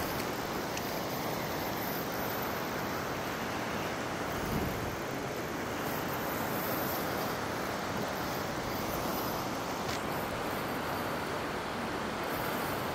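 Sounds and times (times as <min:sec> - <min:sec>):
river water rushing over rapids: 0:00.0 - 0:12.9.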